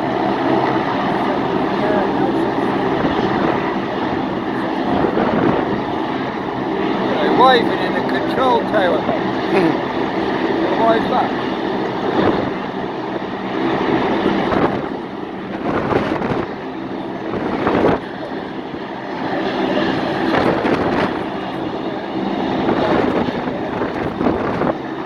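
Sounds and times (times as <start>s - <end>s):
engine drone: 0.0s - 25.0s.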